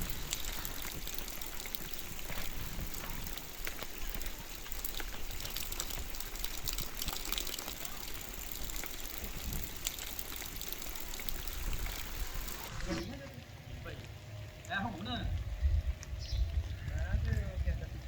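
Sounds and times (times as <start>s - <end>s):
heavy rain falling: 0.0s - 15.2s
raindrops splashing: 0.0s - 18.0s.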